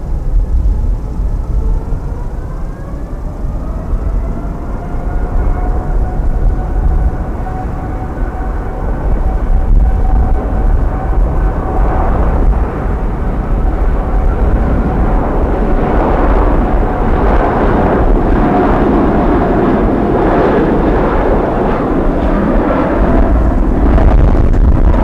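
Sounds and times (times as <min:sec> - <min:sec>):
engine fan whine: 0:00.0 - 0:25.0
jet engines roaring: 0:00.0 - 0:25.0.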